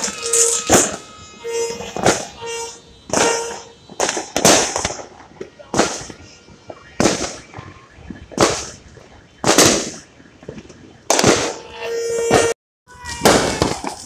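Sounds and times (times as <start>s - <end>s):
firecracker bangs: 0.0s - 14.0s
fireworks crackling: 0.0s - 14.0s.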